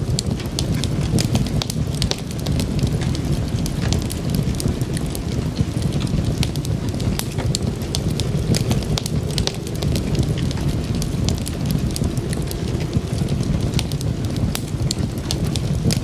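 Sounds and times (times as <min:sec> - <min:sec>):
low rush of flames: 0:00.0 - 0:16.0
sharp pops and snaps: 0:00.0 - 0:16.0
wood fire crackling: 0:00.0 - 0:16.0.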